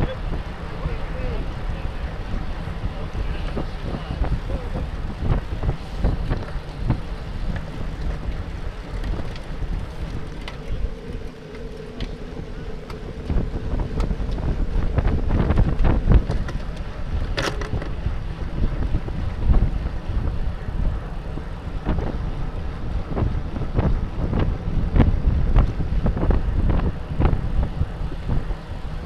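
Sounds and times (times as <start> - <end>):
bike clicks and rattles: 0.0 - 29.0
low rumble: 0.0 - 29.0
wind buffeting microphone: 0.0 - 29.0.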